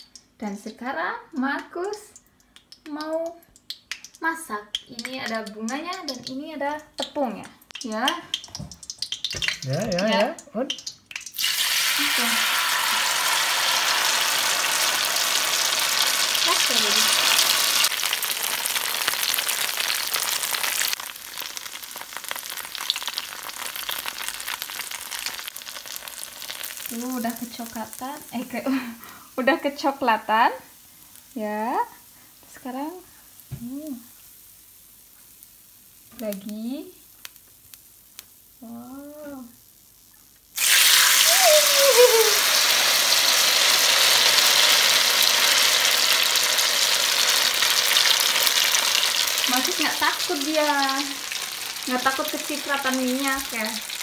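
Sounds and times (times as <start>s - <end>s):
deep-frying sizzle in oil: 0.0s - 54.0s.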